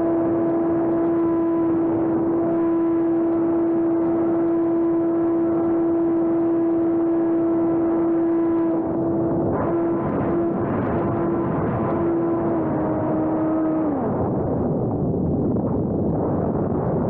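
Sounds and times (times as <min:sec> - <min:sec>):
electric motor and propeller whining: 0:00.0 - 0:15.1
rushing wind: 0:00.0 - 0:17.0.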